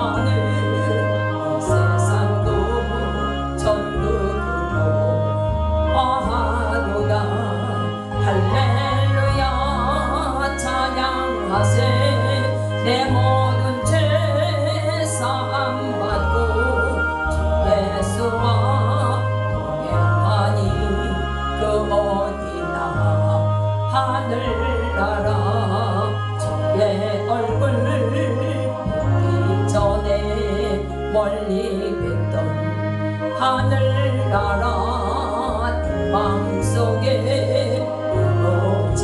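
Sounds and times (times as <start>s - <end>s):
bass line: 0.0s - 39.0s
gospel band playing: 0.0s - 39.0s
person singing melody: 0.0s - 39.0s.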